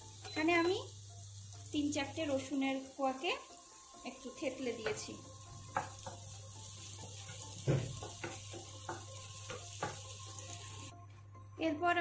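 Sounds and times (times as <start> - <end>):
onion and garlic sizzling in oil: 0.0 - 10.9.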